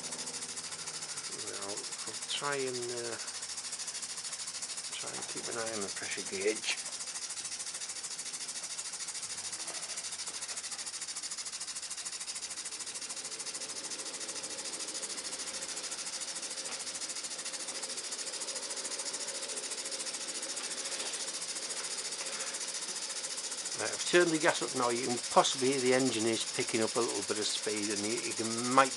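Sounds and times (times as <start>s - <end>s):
hiss of steam and gas burner: 0.0s - 28.9s
model steam engine running: 0.0s - 28.9s.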